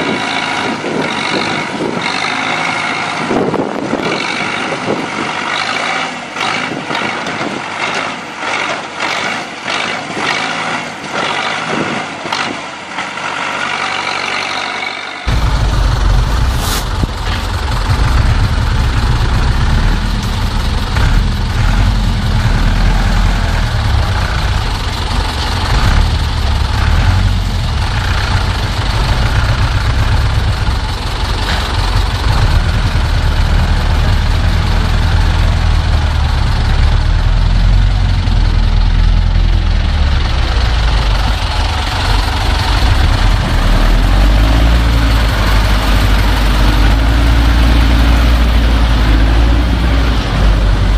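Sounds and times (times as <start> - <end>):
tractor diesel engine droning: 0.0 - 50.9.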